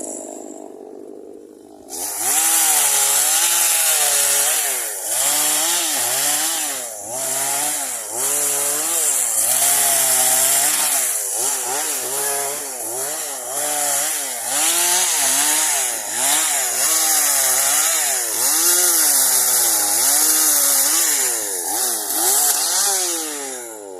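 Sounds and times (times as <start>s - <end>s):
chainsaw revving while cutting: 1.9s - 23.9s.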